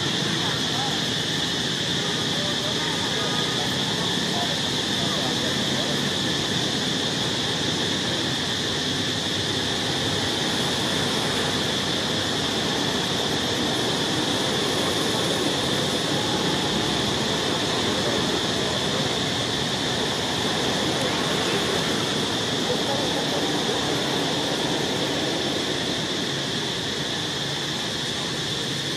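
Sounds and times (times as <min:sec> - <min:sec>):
constant high-pitched tone: 0:00.0 - 0:28.9
outdoor background hiss: 0:00.0 - 0:28.9.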